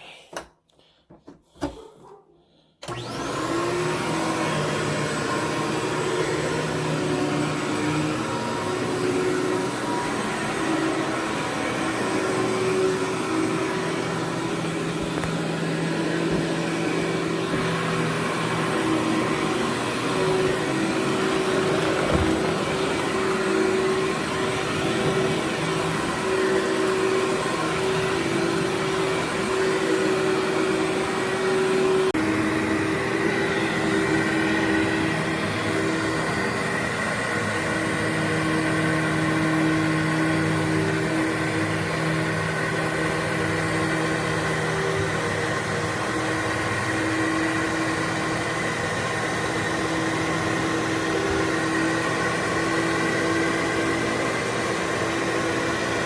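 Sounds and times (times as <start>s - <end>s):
vacuum cleaner motor hum and whine: 2.8s - 56.0s.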